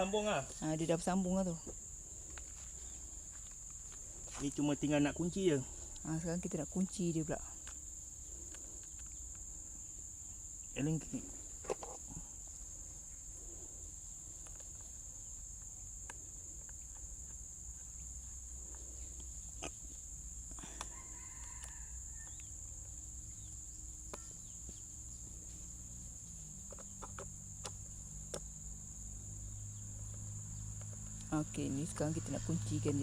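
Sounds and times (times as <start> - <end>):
crickets shrilling: 0.0 - 33.0.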